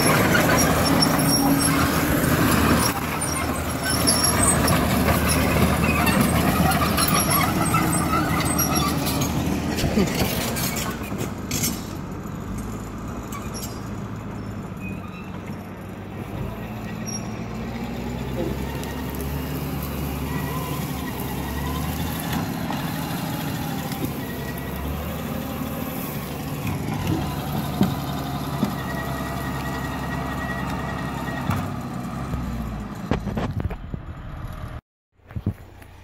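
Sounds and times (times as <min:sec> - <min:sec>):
diesel engine under load: 0:00.0 - 0:36.0.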